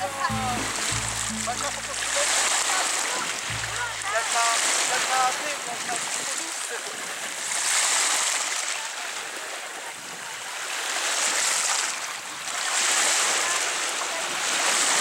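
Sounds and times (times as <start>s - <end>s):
small waves on stony shore: 0.0s - 15.0s.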